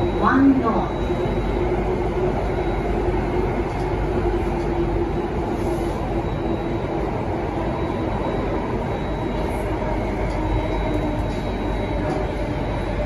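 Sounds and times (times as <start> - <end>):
train hum: 0.0 - 13.0
wheels rumbling on rail: 0.0 - 13.0.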